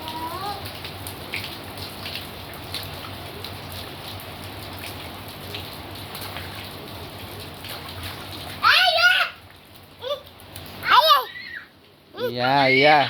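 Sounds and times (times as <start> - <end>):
raindrops splashing: 0.0 - 13.0.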